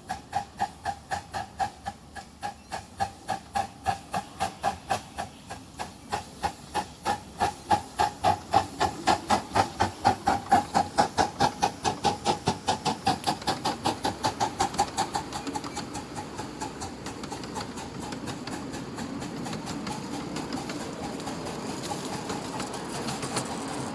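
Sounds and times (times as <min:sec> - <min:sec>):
steam locomotive chuffing: 0:00.0 - 0:23.9.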